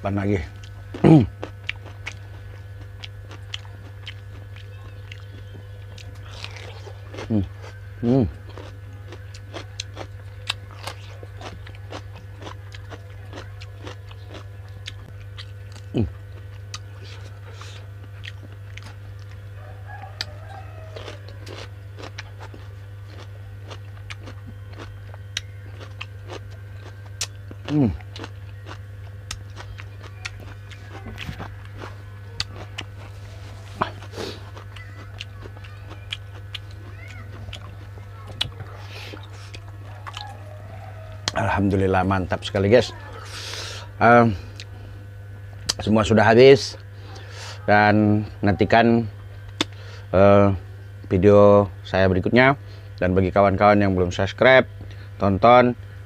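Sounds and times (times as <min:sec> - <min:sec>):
steady low hum: 0:00.0 - 0:56.0
person chewing food: 0:00.2 - 0:45.9.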